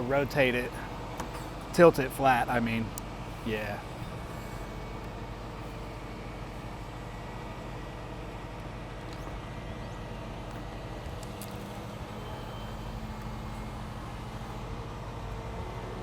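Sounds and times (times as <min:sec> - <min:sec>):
crane engine humming: 0:00.0 - 0:16.0.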